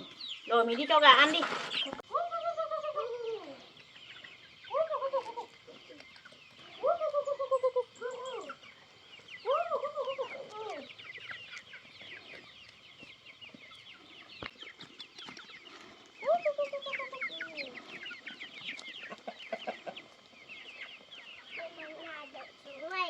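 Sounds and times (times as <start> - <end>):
chickens clucking and cheeping: 0.0 - 23.0
drawn-out chicken call: 0.0 - 23.0.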